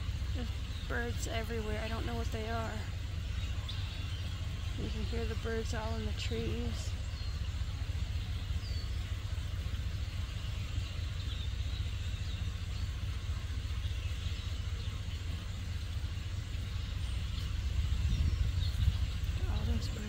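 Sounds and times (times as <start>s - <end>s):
birds chirping: 0.0s - 20.0s
truck engine idling: 0.0s - 20.0s.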